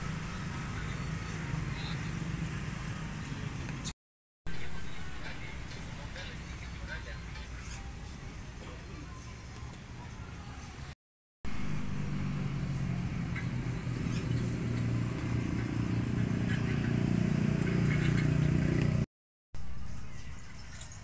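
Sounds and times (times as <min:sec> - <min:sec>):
vehicle engine humming: 0:00.0 - 0:03.9, 0:04.5 - 0:19.1.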